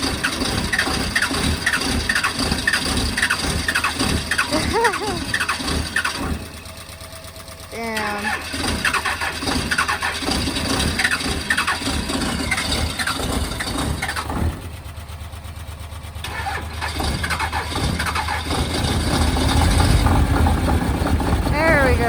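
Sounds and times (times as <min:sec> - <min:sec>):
diesel engine cranking and starting: 0:00.0 - 0:22.0.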